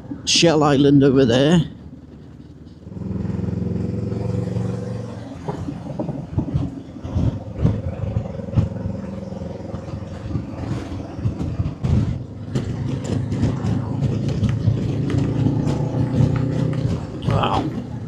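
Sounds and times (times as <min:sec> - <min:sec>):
motorcycle engine running: 0:01.8 - 0:18.0
irregular knocks and clatter: 0:01.9 - 0:18.0.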